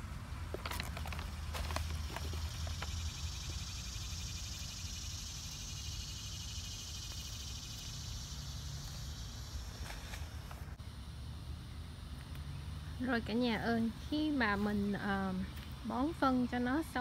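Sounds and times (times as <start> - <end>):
insects trilling: 0.6 - 17.0.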